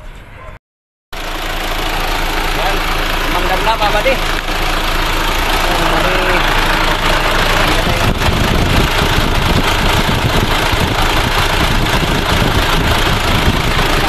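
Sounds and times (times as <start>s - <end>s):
diesel truck engine idling: 1.2s - 14.0s.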